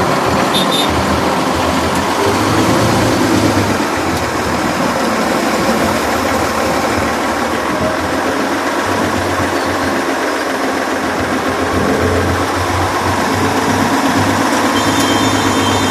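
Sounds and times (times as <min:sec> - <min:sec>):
heavy diesel engine droning: 0:00.0 - 0:15.9.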